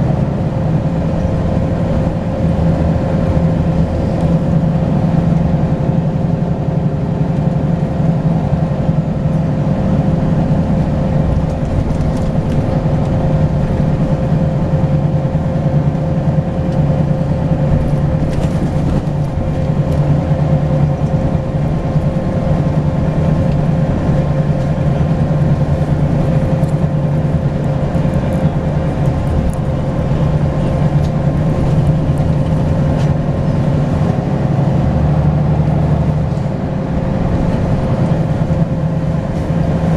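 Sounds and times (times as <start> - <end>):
bus diesel engine running: 0.0 - 39.9
steady whine: 0.0 - 39.9.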